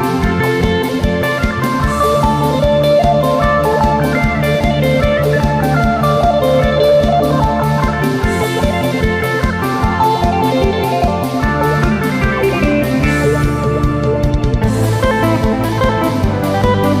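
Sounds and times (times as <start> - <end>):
fast drum beat: 0.0 - 17.0
plucked lute melody: 1.4 - 17.0.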